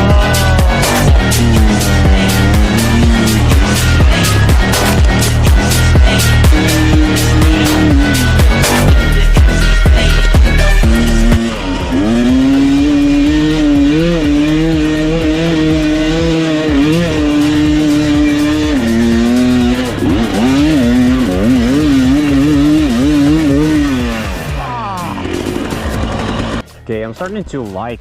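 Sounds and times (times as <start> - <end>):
dirt bike engine revving: 0.0 - 26.6.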